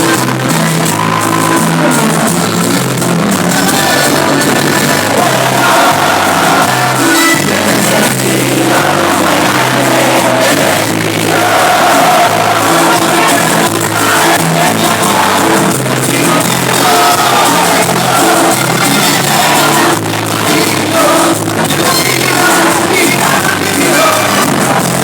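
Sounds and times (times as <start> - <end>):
bass line: 0.0 - 25.0
crowd voices: 0.0 - 25.0
live band music: 0.0 - 25.0
person singing: 0.0 - 25.0.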